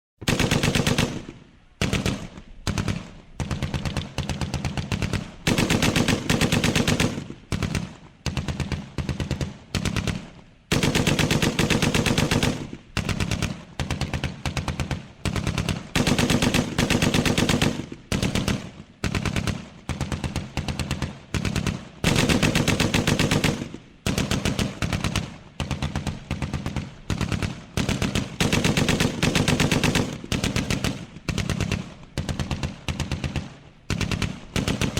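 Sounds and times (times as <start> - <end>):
machine-gun fire bursts: 0.2 - 34.9.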